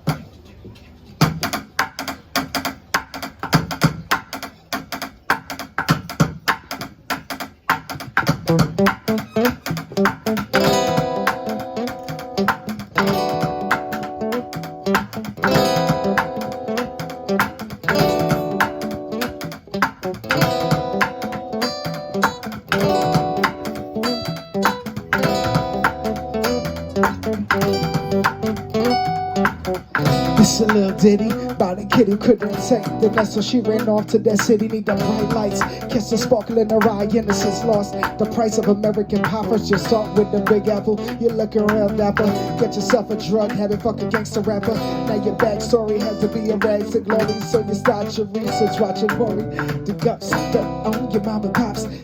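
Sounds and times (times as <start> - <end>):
drum beat: 1.2 - 52.0
guitar and bass chords: 8.3 - 52.0.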